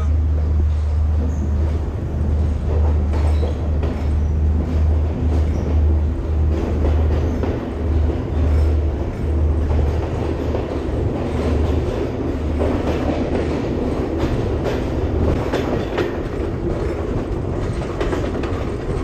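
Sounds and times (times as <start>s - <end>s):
train rumbling: 0.0s - 19.0s
wheels clicking over rail joints: 0.3s - 19.0s.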